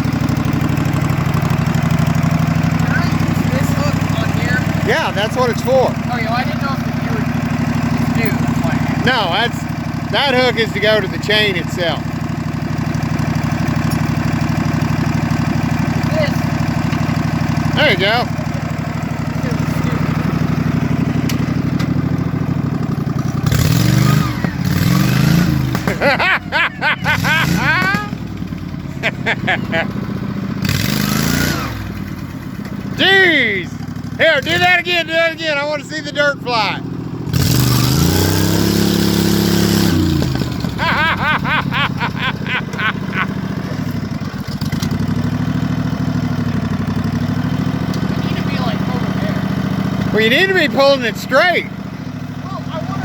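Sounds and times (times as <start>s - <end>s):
lawnmower engine revving: 0.0s - 53.0s.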